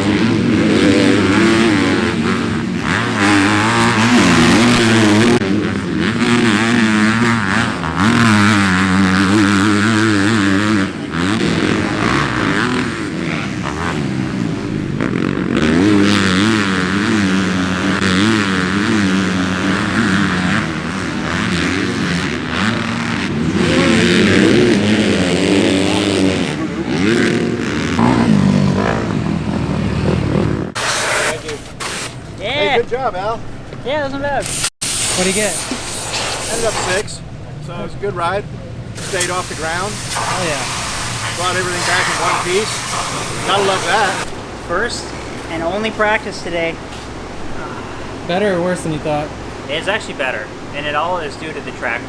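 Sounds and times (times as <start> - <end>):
motocross bike engine revving: 0.0 - 52.0.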